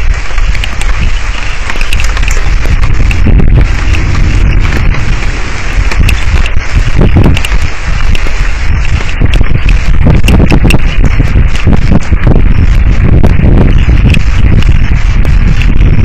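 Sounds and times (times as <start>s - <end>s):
rain clicks on microphone: 0.0s - 16.0s
wind buffeting microphone: 0.0s - 16.0s.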